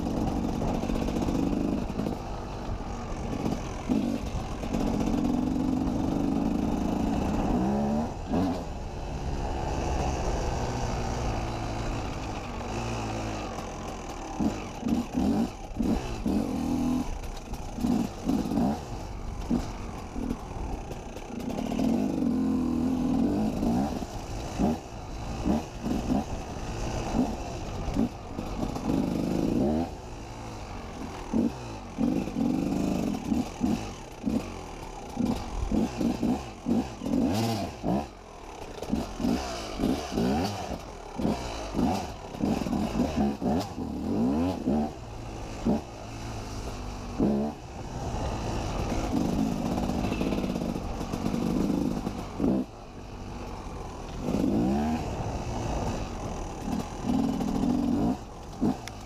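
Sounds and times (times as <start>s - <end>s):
motorcycle clattering over rough ground: 0.0s - 8.9s, 10.7s - 59.0s
motorcycle engine revving: 0.0s - 59.0s.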